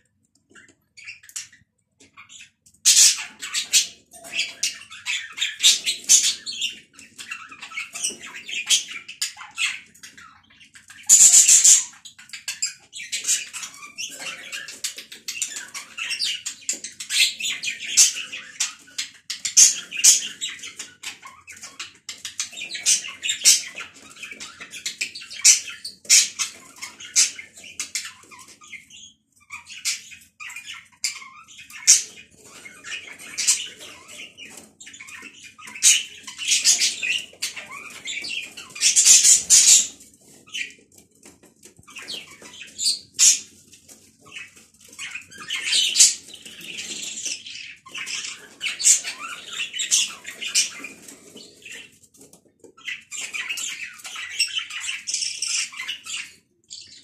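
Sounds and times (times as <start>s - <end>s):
budgerigars chattering: 0.5s - 52.0s, 52.8s - 57.0s.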